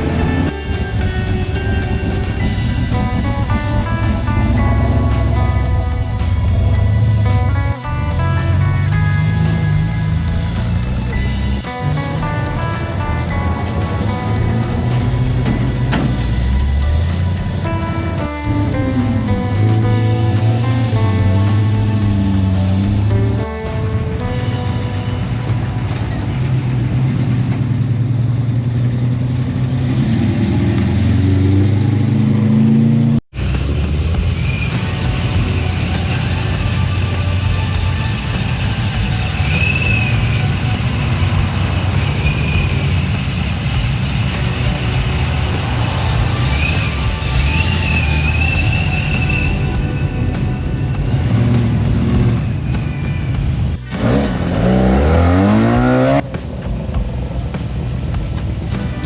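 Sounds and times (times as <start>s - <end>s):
background music: 0.0s - 32.3s, 33.4s - 59.0s
car engine revving: 0.0s - 59.0s.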